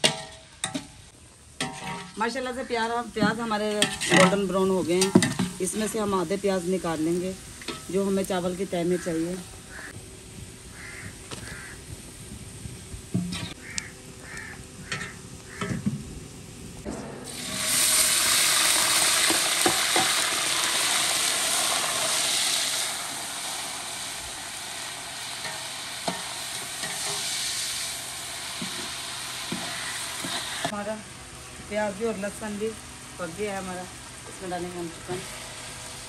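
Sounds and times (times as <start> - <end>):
ghee sizzling in a pot: 0.0 - 11.8, 17.3 - 36.0
loud sizzle of garlic in ghee: 0.0 - 36.0.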